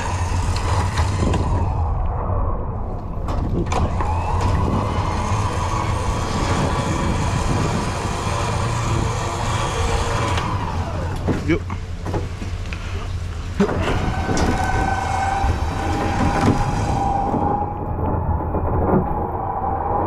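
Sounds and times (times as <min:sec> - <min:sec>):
whine: 0:00.0 - 0:12.0, 0:12.6 - 0:20.0.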